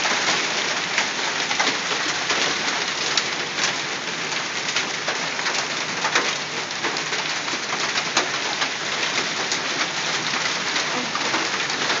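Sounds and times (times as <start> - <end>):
hailstones clattering on surfaces: 0.0 - 12.0.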